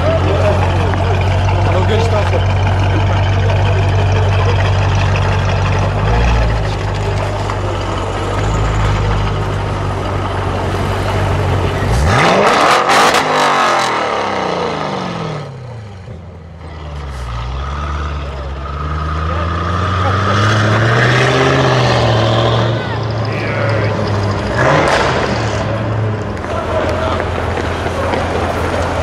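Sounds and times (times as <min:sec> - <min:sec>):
engine revving with crackles: 0:00.0 - 0:15.7, 0:16.6 - 0:29.0
car engine idling: 0:00.0 - 0:20.1, 0:21.4 - 0:29.0.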